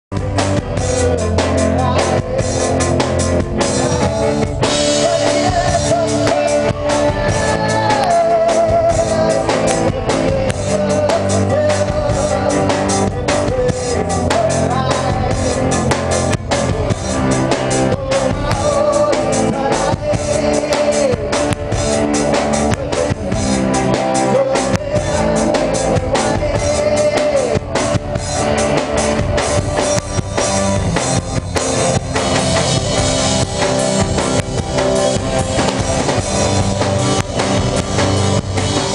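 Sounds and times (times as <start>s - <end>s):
drum kit: 0.1s - 38.9s
electric guitar: 0.1s - 38.9s
electric keyboard: 0.1s - 38.9s
man singing: 0.1s - 38.9s.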